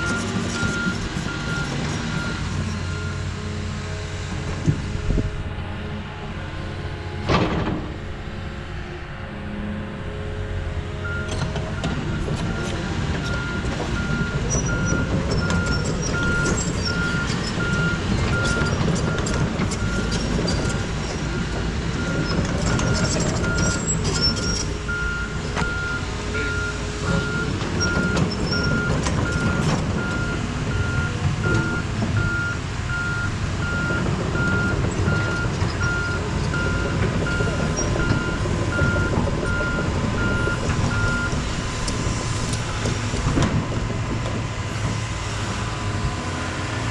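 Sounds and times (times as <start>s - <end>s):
diesel engines rumbling: 0.0s - 46.9s.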